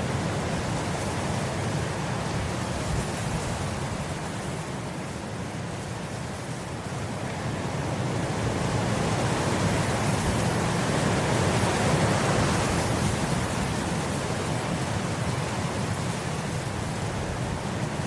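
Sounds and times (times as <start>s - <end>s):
wind blowing across grass: 0.0s - 18.0s.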